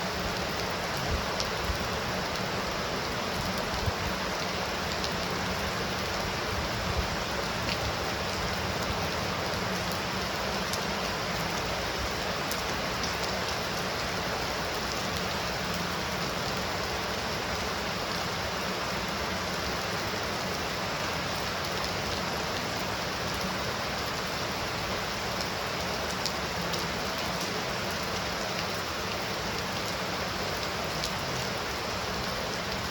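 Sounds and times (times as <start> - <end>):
heavy rain falling: 0.0 - 32.9.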